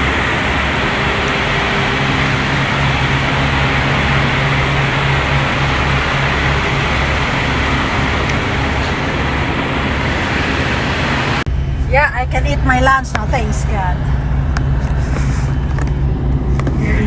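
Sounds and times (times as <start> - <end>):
road noise: 0.0 - 17.0
truck engine hum: 0.0 - 17.0.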